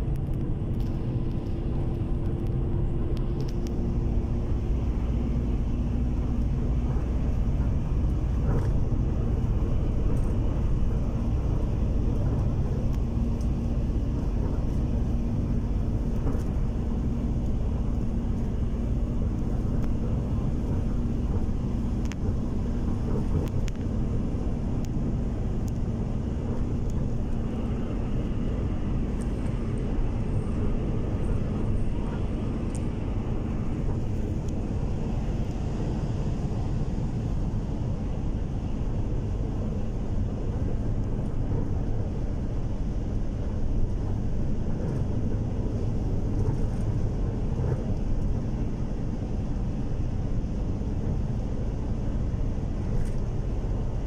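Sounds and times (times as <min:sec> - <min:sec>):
vehicle cabin rumble: 0:00.0 - 0:54.0.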